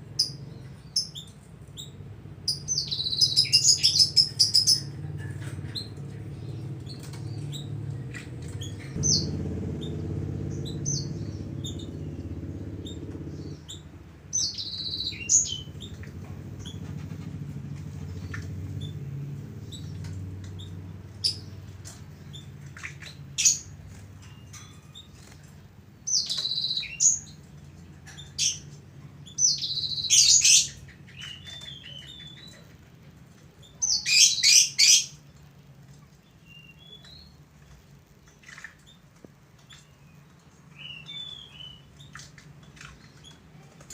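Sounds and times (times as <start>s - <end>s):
bird chirping: 0.0s - 32.9s, 33.5s - 43.9s
low steady hum: 0.0s - 43.9s.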